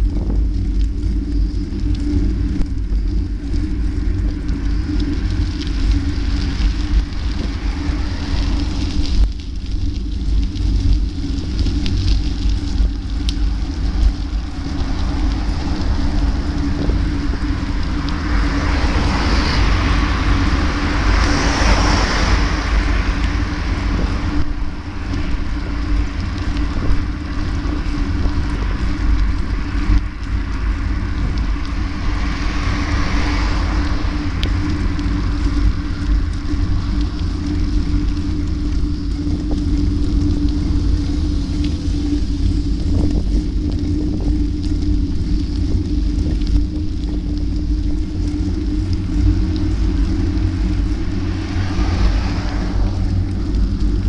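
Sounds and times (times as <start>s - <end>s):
constant hum: 0.0s - 54.0s
traffic noise: 0.0s - 54.0s
wind rumble: 0.0s - 54.0s.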